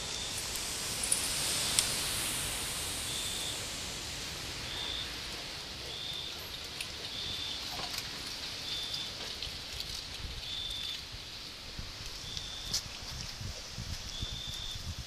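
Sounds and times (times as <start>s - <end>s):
insect chirping: 0.0s - 11.5s, 12.2s - 12.8s, 14.1s - 15.0s
background hiss: 0.0s - 15.0s.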